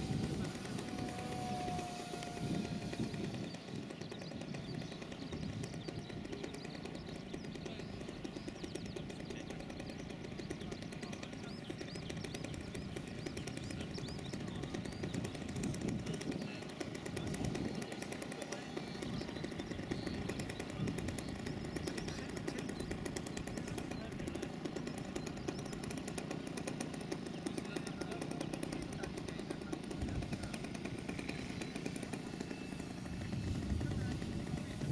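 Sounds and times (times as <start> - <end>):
faint voices: 0.0 - 34.9.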